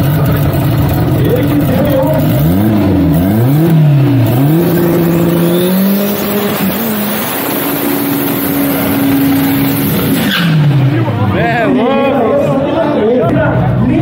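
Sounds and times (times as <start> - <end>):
drag car engine at full throttle: 0.0 - 14.0.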